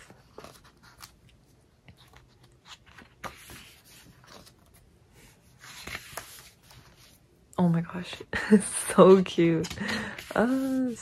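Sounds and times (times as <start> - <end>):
paper pages rustling: 0.0 - 7.2, 9.0 - 11.0.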